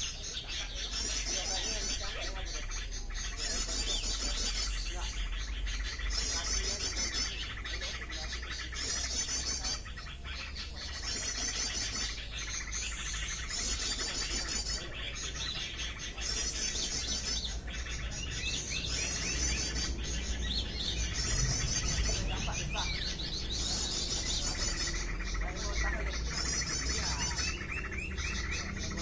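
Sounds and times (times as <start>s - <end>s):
rapid high bird chirping: 0.0s - 29.0s.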